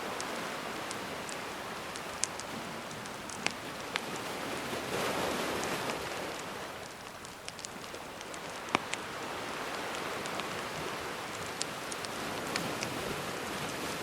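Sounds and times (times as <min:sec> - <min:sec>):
campfire crackling: 0:00.0 - 0:14.0
sea waves washing: 0:00.0 - 0:14.0.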